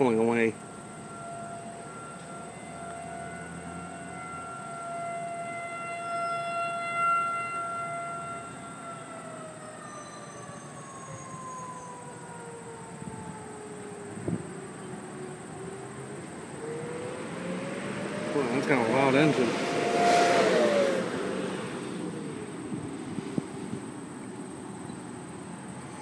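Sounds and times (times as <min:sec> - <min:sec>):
warning siren steady tone: 0:00.0 - 0:26.0.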